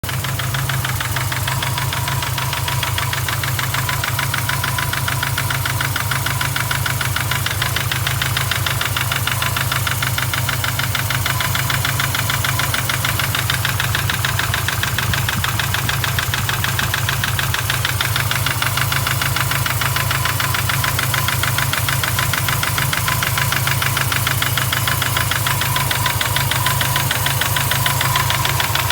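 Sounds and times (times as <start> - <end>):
engine idling with fast ticking: 0.0 - 28.9.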